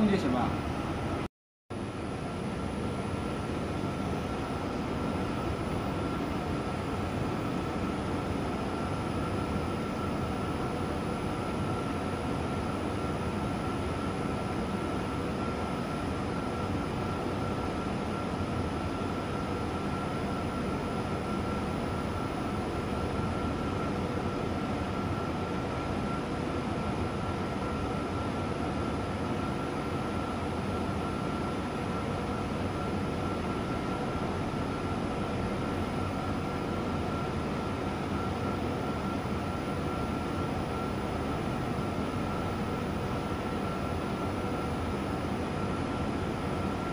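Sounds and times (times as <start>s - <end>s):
machine running with high whine: 1.8s - 46.9s.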